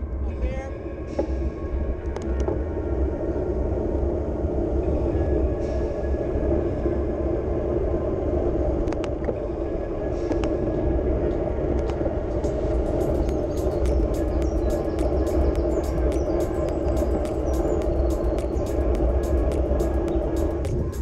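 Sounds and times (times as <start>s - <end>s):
wind rushing over microphone: 0.0s - 21.0s
bike tyres humming on asphalt: 1.2s - 21.0s.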